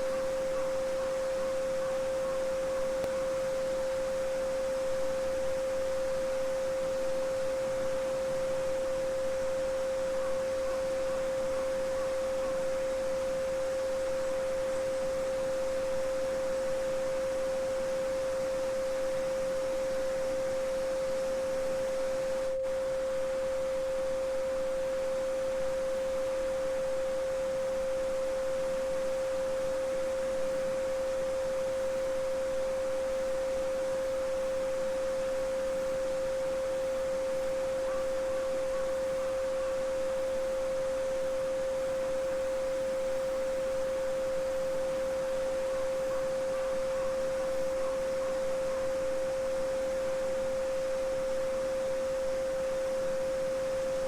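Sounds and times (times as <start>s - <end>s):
pure sine tone: 0.0s - 54.0s.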